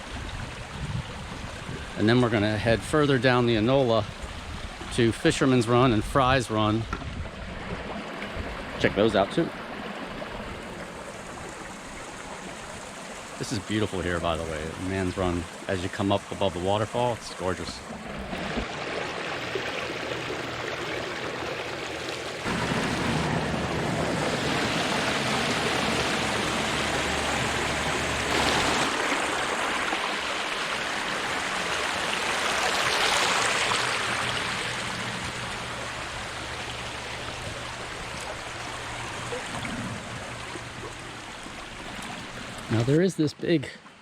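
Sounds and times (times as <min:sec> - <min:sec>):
creek water rushing over rocks: 0:00.0 - 0:44.0.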